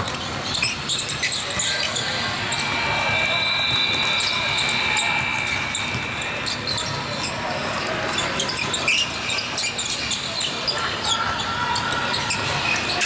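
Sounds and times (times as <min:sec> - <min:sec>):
voices in a gym: 0:00.0 - 0:13.0
shoe squeaks: 0:00.2 - 0:10.8.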